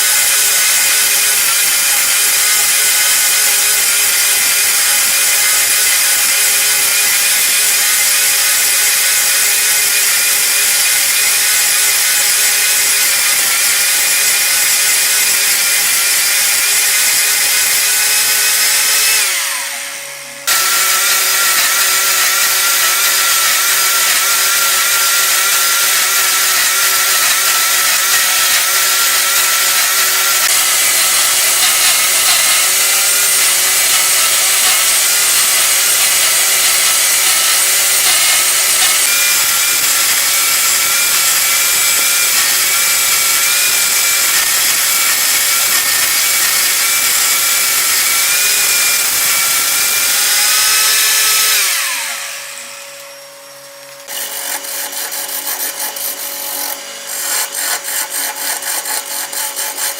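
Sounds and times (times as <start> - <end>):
wood lathe whining: 0.0 - 59.9.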